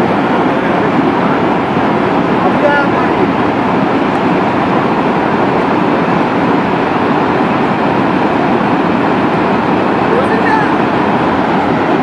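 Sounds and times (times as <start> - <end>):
flash flood water rushing: 0.0 - 12.0.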